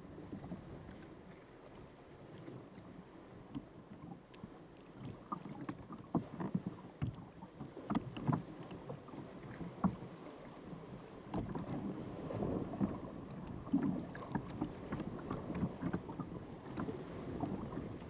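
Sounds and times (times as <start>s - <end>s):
water splashing against kayak: 0.0s - 18.0s.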